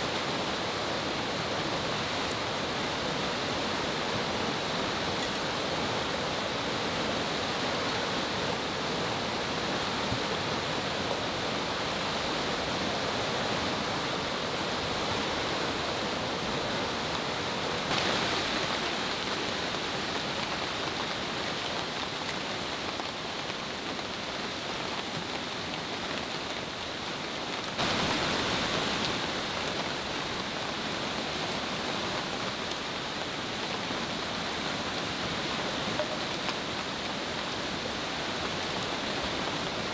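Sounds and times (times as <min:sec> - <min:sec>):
falling rain: 0:00.0 - 0:39.9
fast-flowing river rushing: 0:00.0 - 0:39.9.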